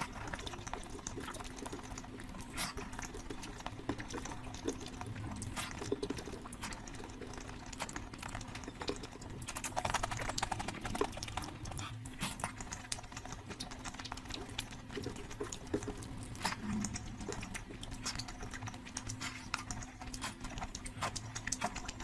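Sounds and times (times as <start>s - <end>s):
wet chewing and smacking: 0.0s - 22.0s.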